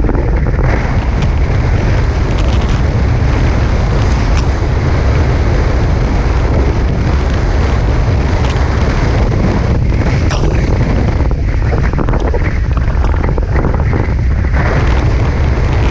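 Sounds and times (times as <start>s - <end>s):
water rushing along hulls: 0.0s - 15.9s
wind buffeting microphone: 0.0s - 15.9s.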